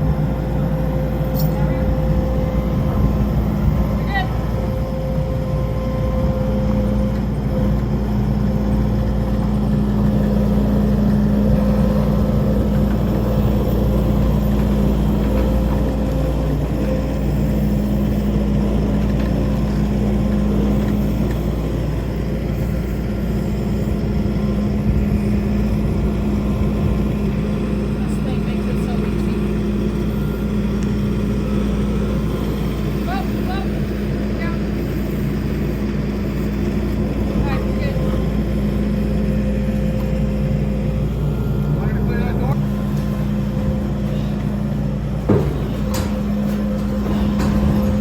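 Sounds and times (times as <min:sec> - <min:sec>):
skid steer engine running: 0:00.0 - 0:48.0.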